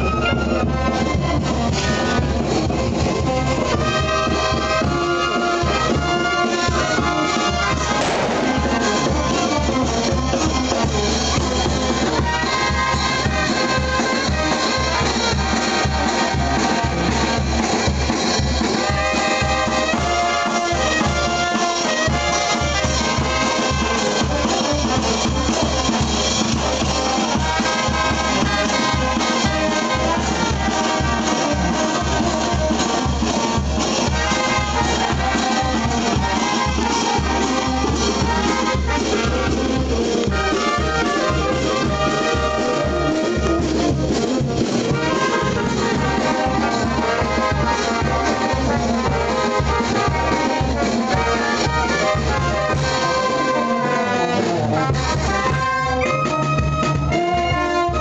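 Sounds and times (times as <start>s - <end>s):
drum and hand cymbals beat: 0.0s - 58.0s
trumpets and trombones playing: 0.0s - 58.0s.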